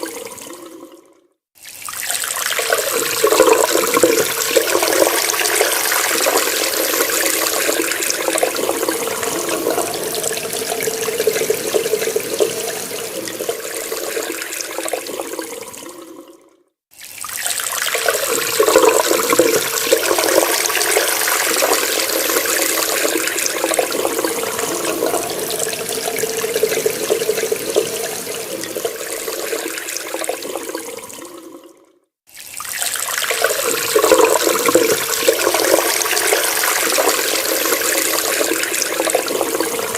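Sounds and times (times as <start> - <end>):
water running from a tap: 1.6 - 16.3, 17.0 - 31.6, 32.3 - 39.9.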